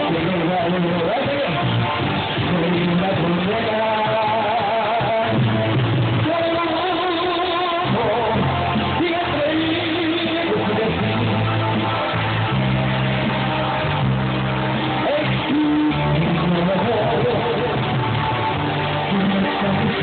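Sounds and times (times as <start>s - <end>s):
man singing into microphone: 0.0s - 12.7s, 14.8s - 20.0s
bass line: 0.0s - 20.0s
guitar: 0.0s - 20.0s.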